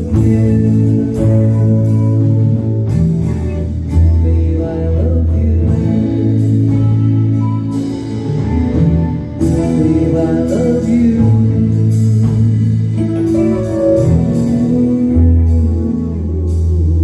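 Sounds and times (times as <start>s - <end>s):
person singing: 0.0s - 2.9s, 3.8s - 8.4s, 9.1s - 17.0s
live band playing pop ballad: 0.0s - 17.0s.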